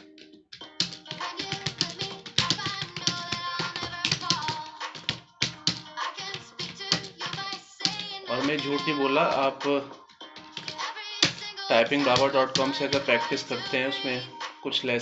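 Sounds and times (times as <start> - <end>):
keyboard typing: 0.0 - 13.8
recorded song playing: 0.0 - 15.0.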